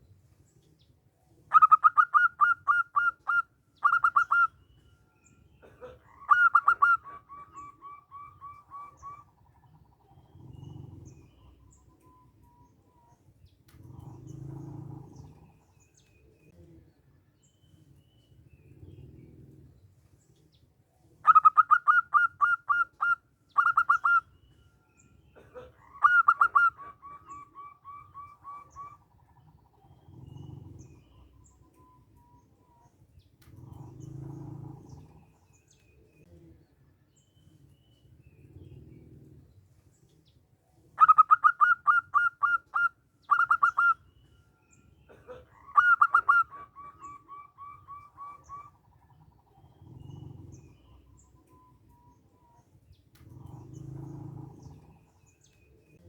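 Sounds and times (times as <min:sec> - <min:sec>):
dove cooing: 0:01.4 - 0:04.8, 0:05.6 - 0:16.8, 0:21.2 - 0:36.7, 0:37.4 - 0:56.0.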